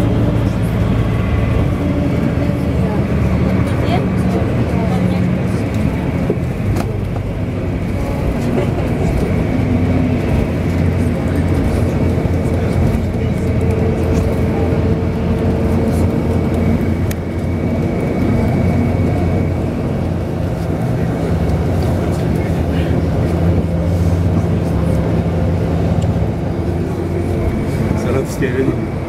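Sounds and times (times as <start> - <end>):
vehicle engine drone: 0.0 - 29.0.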